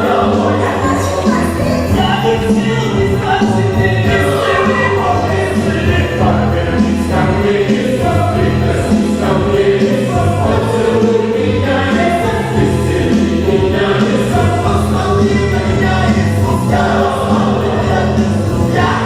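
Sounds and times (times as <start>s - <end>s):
choir singing long notes: 0.0s - 19.0s
instrumental backing with bass: 0.0s - 19.0s.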